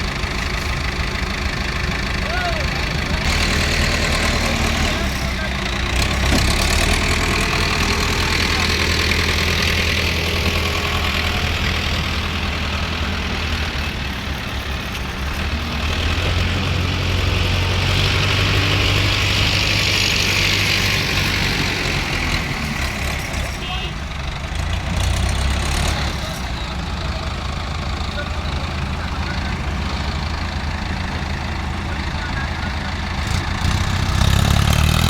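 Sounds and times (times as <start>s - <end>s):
diesel engines droning: 0.0s - 35.0s.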